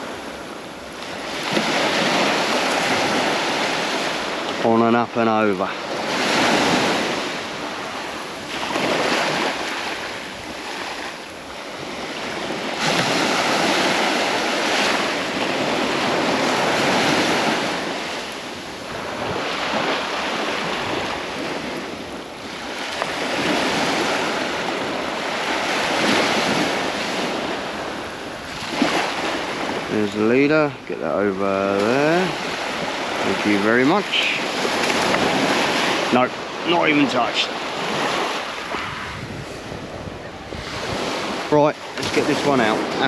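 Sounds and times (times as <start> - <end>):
surf breaking on beach: 0.0 - 43.0
wind noise on microphone: 5.5 - 30.2, 31.9 - 36.9, 37.5 - 43.0.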